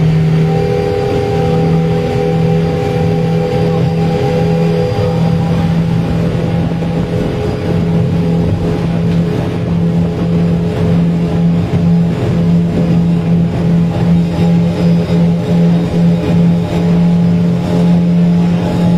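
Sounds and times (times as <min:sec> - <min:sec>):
outboard motor running: 0:00.0 - 0:18.9.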